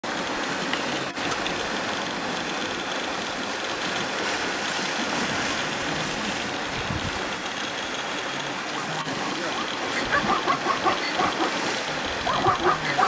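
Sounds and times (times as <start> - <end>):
animals splashing through water: 0.0 - 13.0
rushing river water: 0.0 - 13.0.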